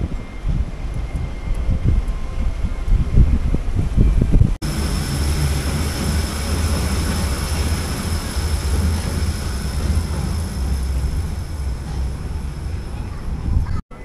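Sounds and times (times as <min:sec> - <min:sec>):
train rumbling on steel track: 0:00.0 - 0:14.0.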